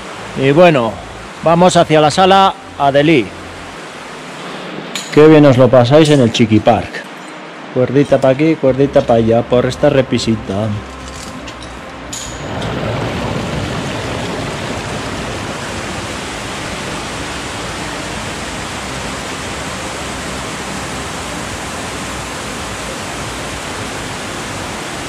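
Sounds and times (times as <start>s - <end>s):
stream cascading over rock: 0.0s - 25.0s.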